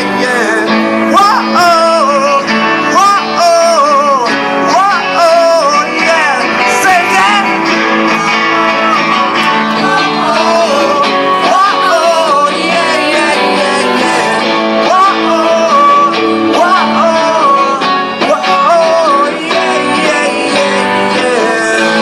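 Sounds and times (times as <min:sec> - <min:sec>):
acoustic guitars strumming: 0:00.0 - 0:22.0
man singing: 0:00.0 - 0:22.0.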